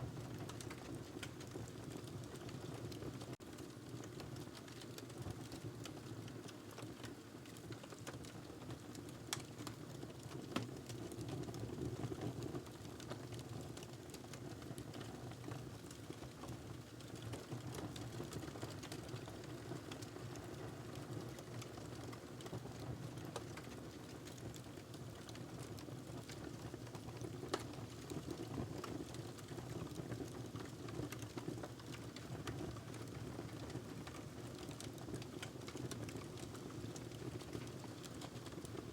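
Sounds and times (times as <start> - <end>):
fire crackling and popping: 0.1 - 38.9.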